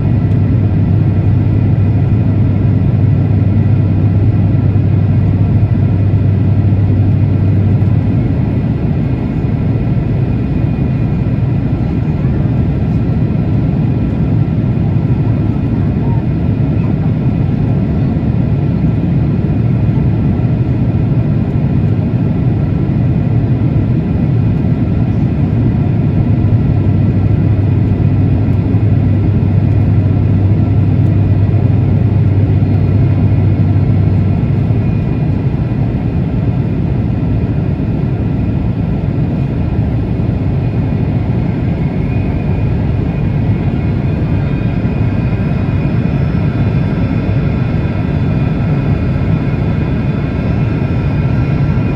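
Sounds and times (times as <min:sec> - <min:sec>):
high engine whine: 0:00.0 - 0:51.9
jet engine and airflow rumble: 0:00.0 - 0:51.9.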